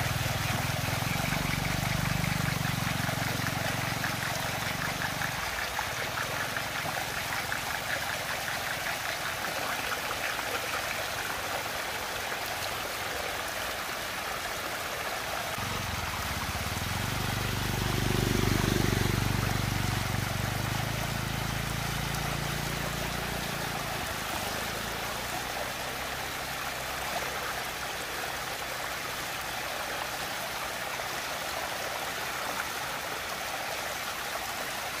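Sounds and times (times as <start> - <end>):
water rushing and swirling: 0.0 - 35.0.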